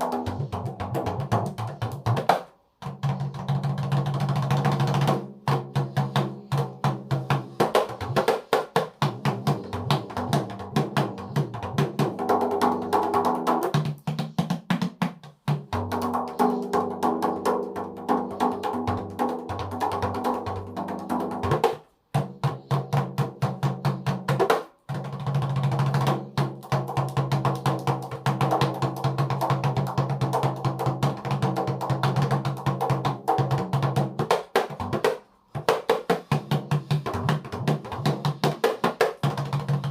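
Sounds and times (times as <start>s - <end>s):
frame drums struck by hand: 0.0s - 39.9s.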